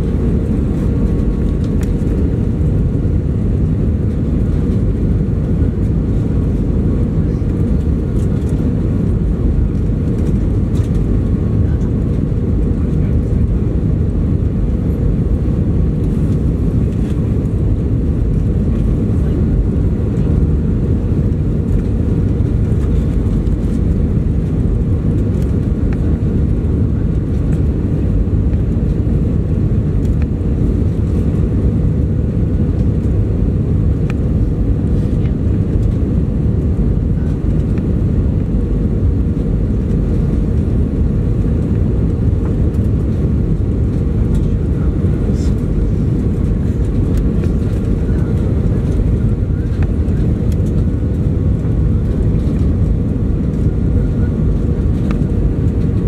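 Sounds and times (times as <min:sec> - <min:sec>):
aircraft cabin engine and airflow roar: 0:00.0 - 0:56.0.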